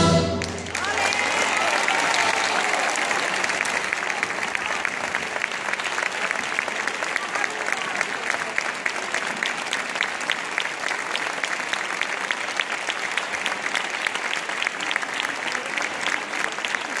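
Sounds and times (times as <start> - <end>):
crowd applauding: 0.2 - 17.0.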